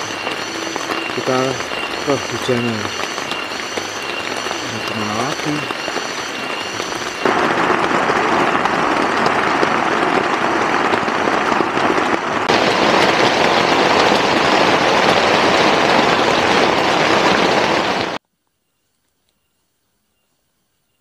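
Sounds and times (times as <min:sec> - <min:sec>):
heavy rain pouring: 0:00.0 - 0:18.2.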